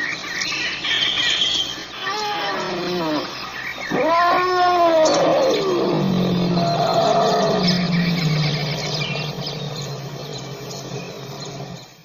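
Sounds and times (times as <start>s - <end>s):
elephant calling: 0.9s - 11.8s.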